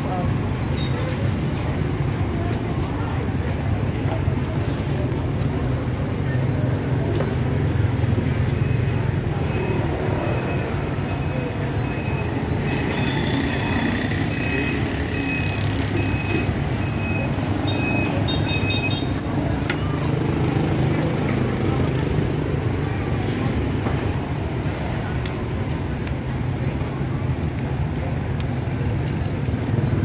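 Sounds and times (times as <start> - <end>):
passing motor vehicles rumble: 0.0 - 30.0.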